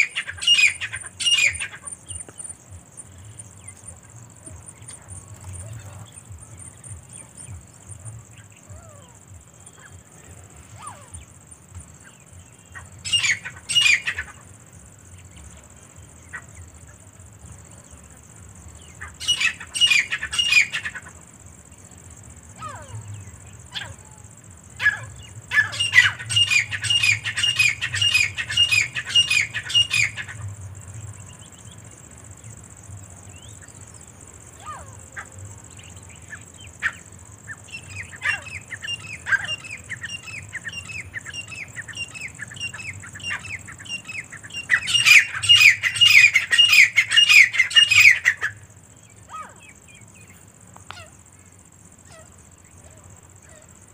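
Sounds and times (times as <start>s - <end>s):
birds calling shrilly: 0.0s - 53.9s.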